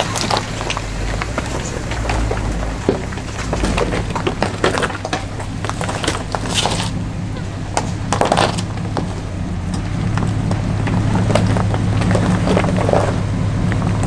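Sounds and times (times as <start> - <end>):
cracking and crunching: 0.0 - 14.0
off-road vehicle engine running: 0.0 - 14.0.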